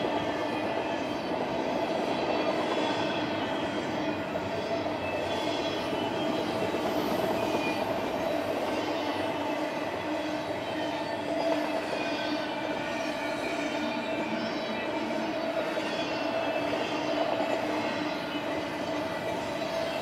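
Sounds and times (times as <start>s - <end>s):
freight train wheels rumbling: 0.0s - 20.0s
high squealing wheels: 0.0s - 20.0s.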